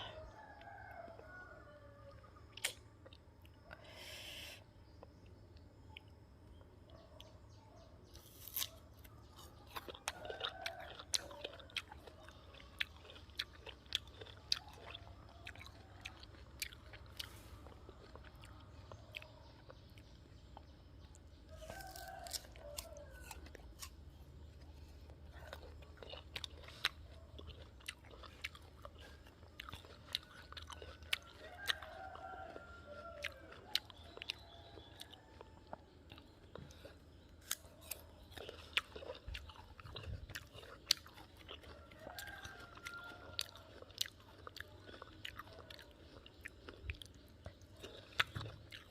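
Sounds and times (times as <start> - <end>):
crunching and chewing fruit: 0.0 - 48.9.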